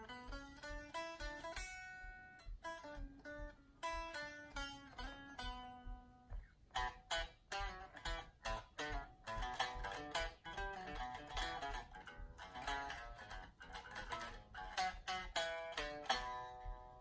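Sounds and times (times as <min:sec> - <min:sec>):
electric guitar melody: 0:00.0 - 0:17.0
strummed guitar chords: 0:00.0 - 0:17.0.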